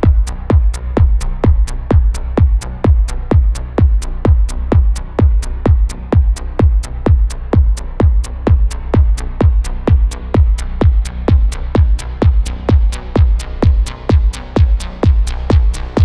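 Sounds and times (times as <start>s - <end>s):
kick drum: 0.0s - 16.0s
low synth bass line: 0.0s - 16.0s.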